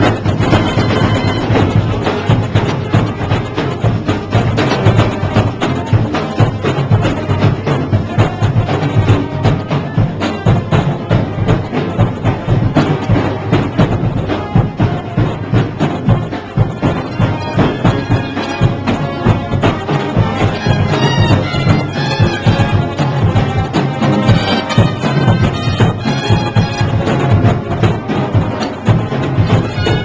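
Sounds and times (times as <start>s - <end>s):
horns playing melody: 0.0s - 30.0s
marching band drums: 0.0s - 30.0s.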